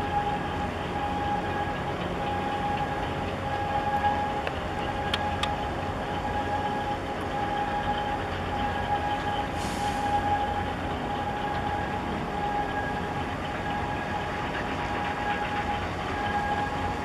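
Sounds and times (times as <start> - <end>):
ship engines droning: 0.0 - 17.0
steady machinery whine: 0.0 - 17.0.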